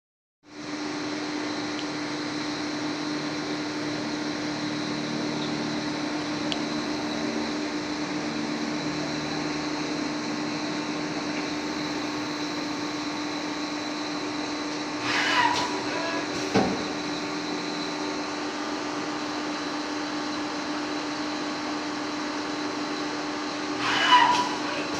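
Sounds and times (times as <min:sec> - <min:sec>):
high machine whine: 0:00.5 - 0:24.9
lathe machine hum: 0:00.5 - 0:24.9.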